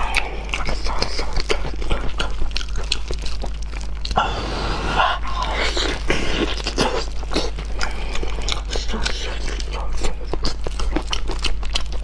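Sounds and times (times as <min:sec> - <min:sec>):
wet chewing and smacking: 0:00.0 - 0:04.2, 0:05.3 - 0:12.0
low hum: 0:00.0 - 0:12.0.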